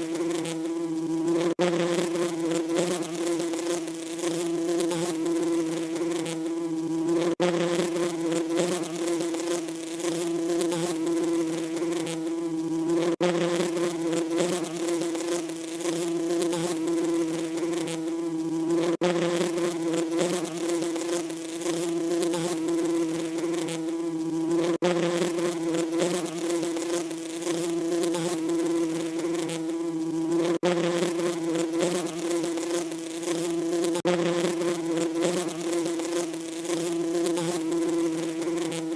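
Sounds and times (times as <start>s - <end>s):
bee buzzing: 0.0s - 38.9s.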